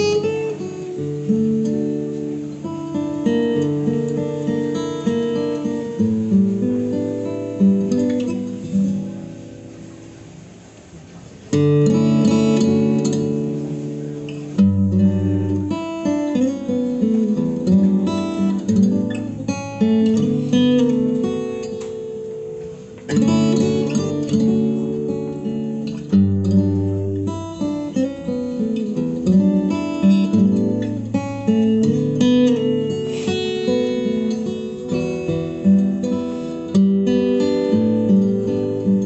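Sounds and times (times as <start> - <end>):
fingerstyle acoustic guitar: 0.0 - 39.0.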